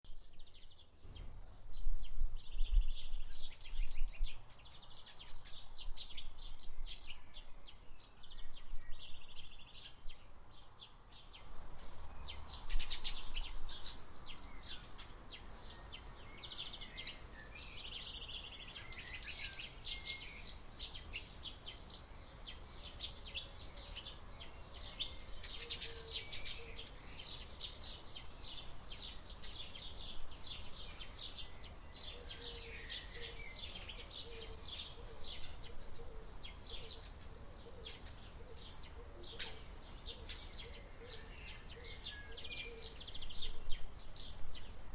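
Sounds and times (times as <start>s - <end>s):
songbirds chirping and singing: 0.1s - 44.9s.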